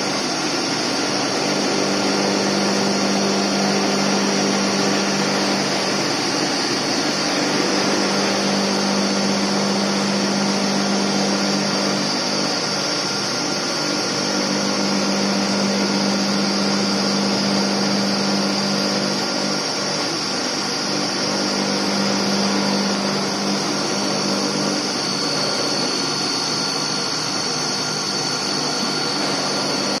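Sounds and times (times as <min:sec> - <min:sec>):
mill motor whine: 0:00.0 - 0:30.0.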